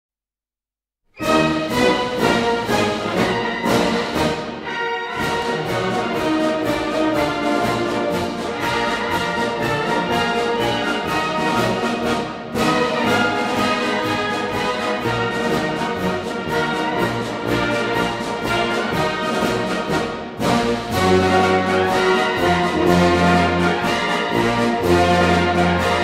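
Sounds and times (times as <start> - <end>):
orchestral music led by brass: 1.2 - 26.0.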